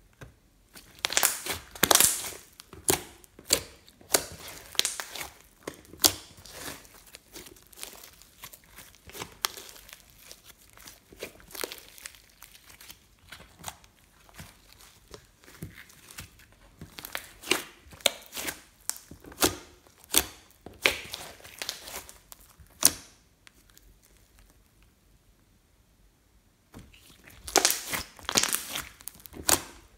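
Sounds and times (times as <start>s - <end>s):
slime popping and crackling: 0.7s - 24.5s, 26.9s - 29.9s.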